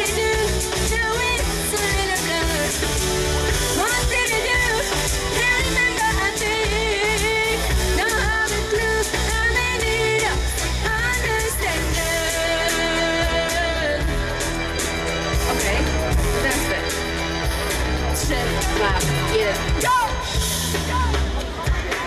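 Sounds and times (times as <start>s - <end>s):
woman singing into a microphone: 0.0s - 14.4s, 18.2s - 22.0s
electronic band with bass and beat: 0.0s - 22.0s.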